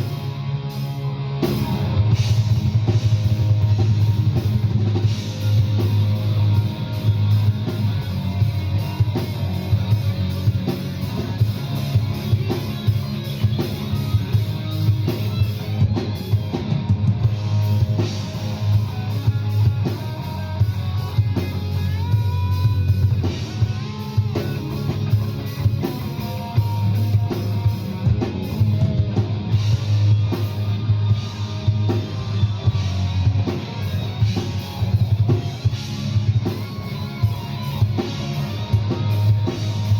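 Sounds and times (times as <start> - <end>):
rock music: 0.0 - 39.9
sliding lead guitar notes: 0.0 - 39.9.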